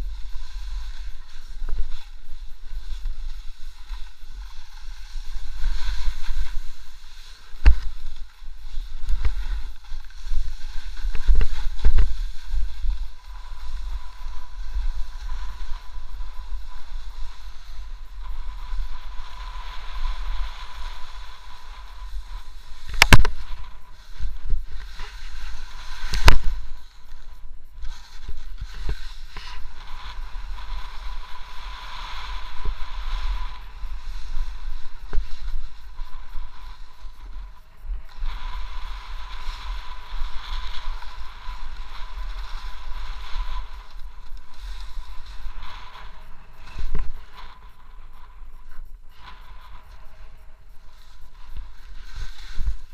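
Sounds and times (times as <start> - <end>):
snowboard scraping over snow: 0.0 - 52.9
wind rumble on microphone: 0.0 - 52.9.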